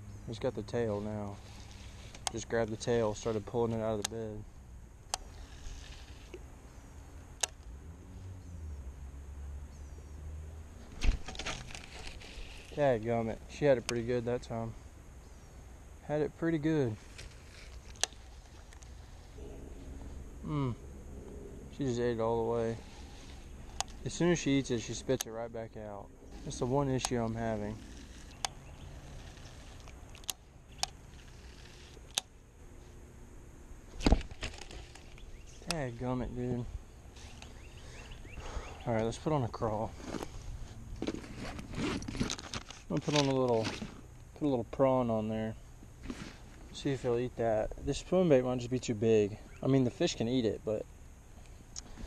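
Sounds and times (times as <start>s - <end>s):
steady low rumble: 0.0s - 49.4s
faint outdoor hiss: 0.0s - 52.0s.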